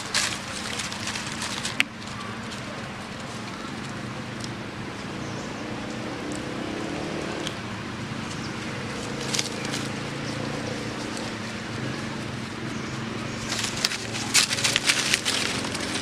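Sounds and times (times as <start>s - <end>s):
dry leaves crackling: 0.0s - 16.0s
outdoor hum and hiss: 0.0s - 16.0s.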